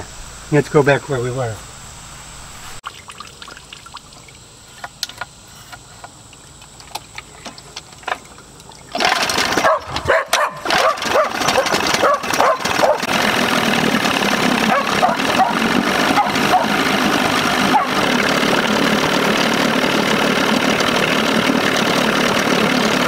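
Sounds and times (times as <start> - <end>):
outboard motor starting and running: 1.9 - 23.0.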